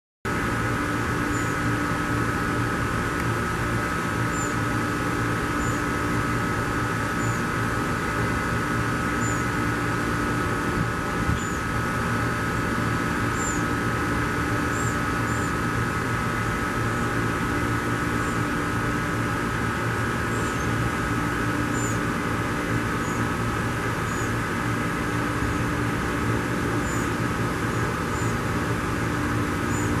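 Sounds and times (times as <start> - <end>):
air conditioner humming: 0.3 - 30.0.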